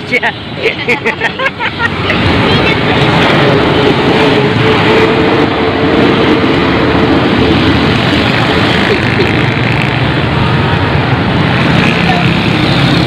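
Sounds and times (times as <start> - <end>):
cars driving past: 0.0 - 13.0
traffic rumble: 0.0 - 13.0.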